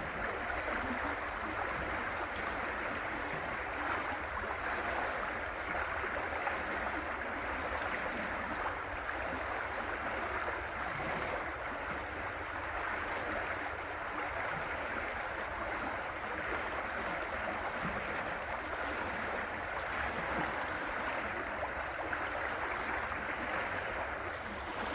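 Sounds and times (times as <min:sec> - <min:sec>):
river water rushing: 0:00.0 - 0:24.9.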